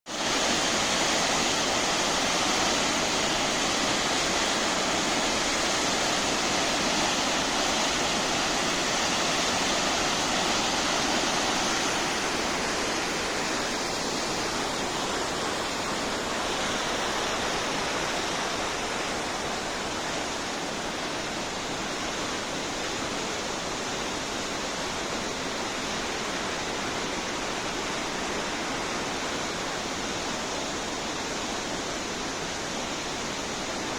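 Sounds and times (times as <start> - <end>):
heavy rush of waterfall: 0.1 - 33.9.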